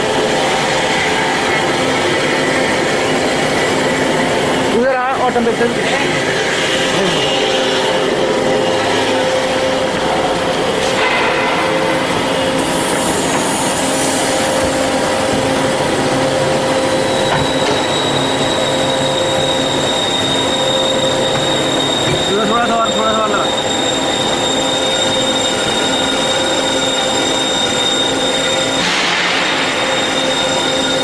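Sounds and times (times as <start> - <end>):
band saw running: 0.0 - 31.0
thin high whine: 0.0 - 31.0.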